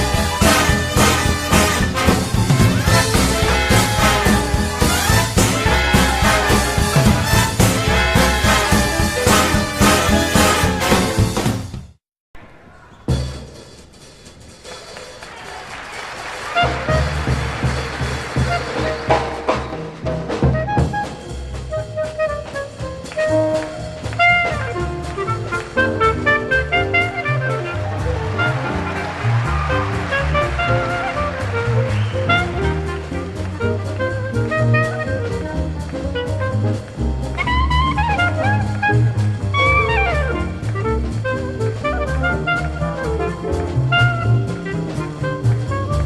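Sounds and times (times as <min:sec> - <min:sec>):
horns playing falling runs: 0:00.0 - 0:11.6, 0:16.2 - 0:19.7, 0:20.5 - 0:46.0
saxophone and brass: 0:00.0 - 0:11.7, 0:16.4 - 0:19.7, 0:20.4 - 0:46.0
bass and drums beat: 0:00.0 - 0:12.0, 0:16.5 - 0:46.0
big band jazz: 0:00.0 - 0:12.0, 0:16.1 - 0:46.0.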